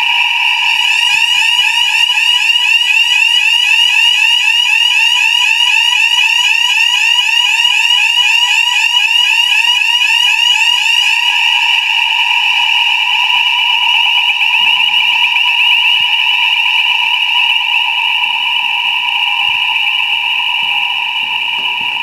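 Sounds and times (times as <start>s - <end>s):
fire alarm whooping: 0.0s - 22.0s.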